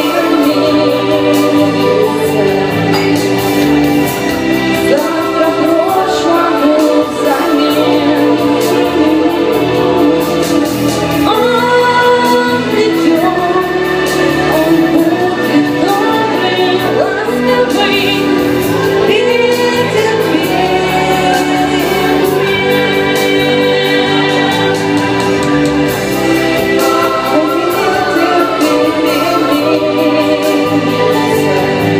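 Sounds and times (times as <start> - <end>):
instrumental backing: 0.0 - 31.9
person singing: 0.0 - 31.9.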